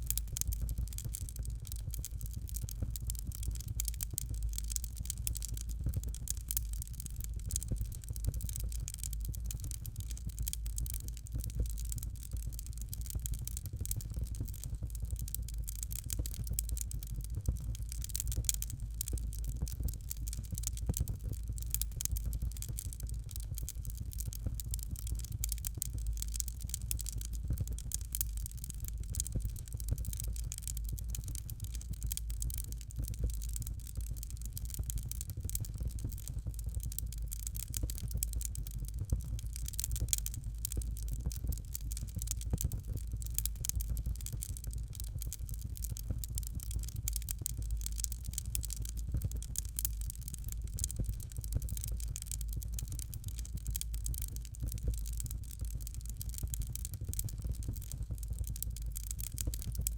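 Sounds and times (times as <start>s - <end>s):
fire crackling in a fireplace: 0.0s - 59.9s.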